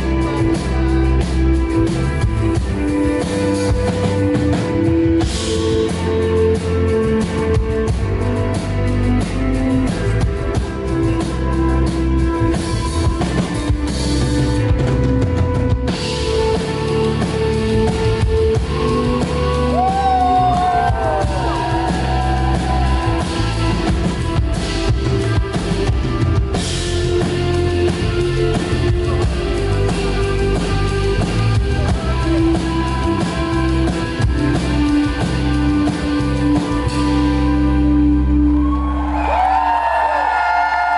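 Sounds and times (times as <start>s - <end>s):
live rock band: 0.0s - 40.9s.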